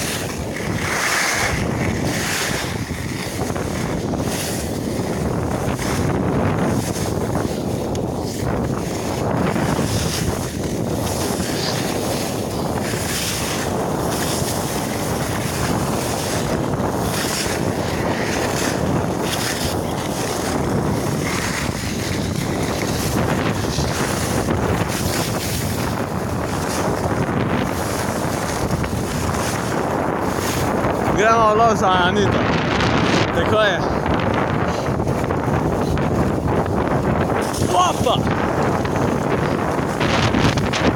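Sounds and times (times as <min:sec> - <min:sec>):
skis carving snow: 0:00.0 - 0:40.9
wind on microphone: 0:00.0 - 0:40.9.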